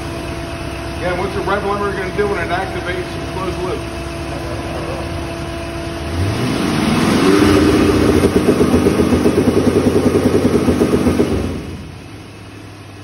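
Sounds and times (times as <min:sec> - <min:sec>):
engine hitting rev limiter: 0:01.1 - 0:12.2.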